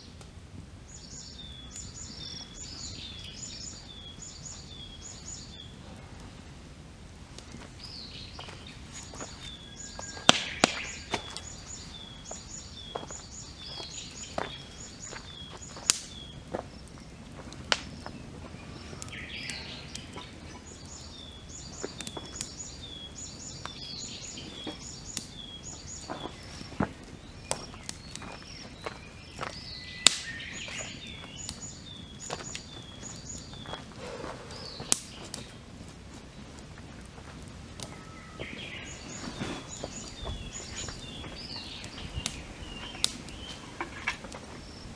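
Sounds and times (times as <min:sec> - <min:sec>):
songbird singing: 0:00.0 - 0:06.6, 0:07.4 - 0:44.9
campfire crackling and popping: 0:00.0 - 0:44.9.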